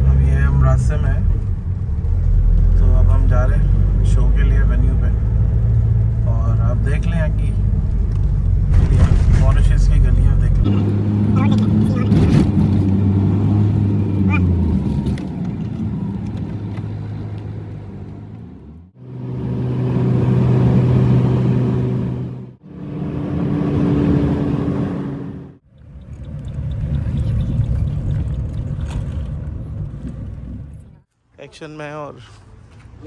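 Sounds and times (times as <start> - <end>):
vehicle engine and road hum: 0.0 - 31.1.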